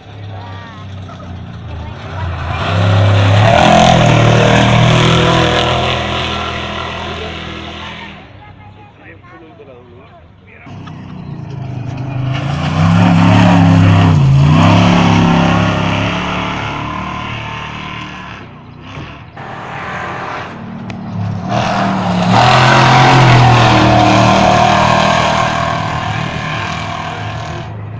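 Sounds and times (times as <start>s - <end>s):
race trucks passing by: 0.0s - 27.9s.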